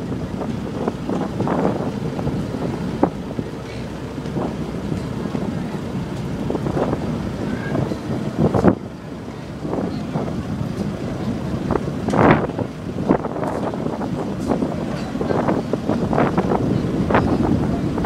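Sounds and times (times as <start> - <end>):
ferry engines rumbling: 0.0 - 18.0
wind buffeting microphone: 0.0 - 18.0.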